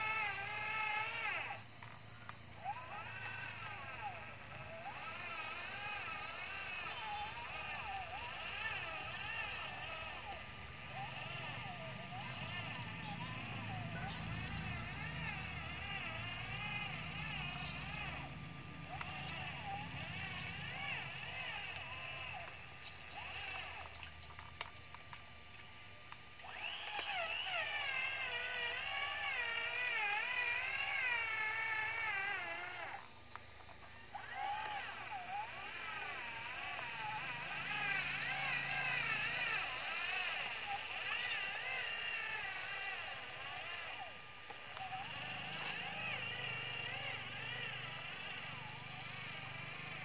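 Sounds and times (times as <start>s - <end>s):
rc truck motor whining: 0.0s - 50.0s.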